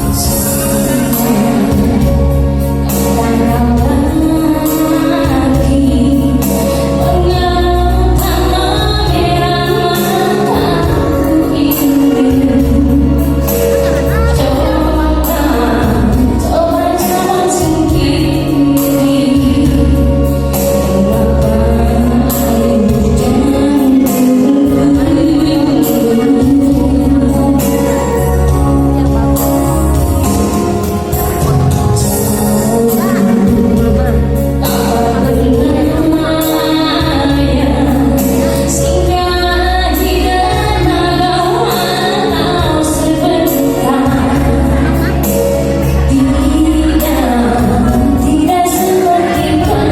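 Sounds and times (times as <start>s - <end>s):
song with singing voice: 0.0s - 49.9s.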